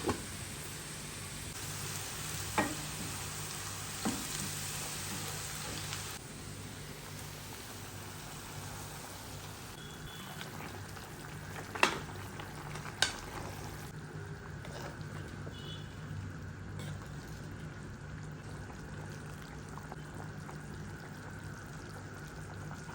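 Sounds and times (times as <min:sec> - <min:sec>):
food sizzling in a pan: 0:00.0 - 0:22.9.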